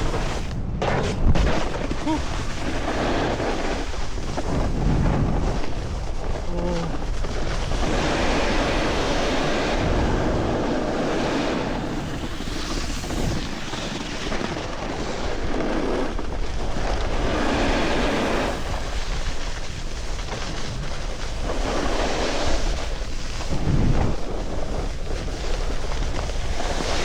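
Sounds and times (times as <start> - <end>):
snowboard scraping snow: 0.0 - 27.0
wind rushing over microphone: 0.0 - 27.0.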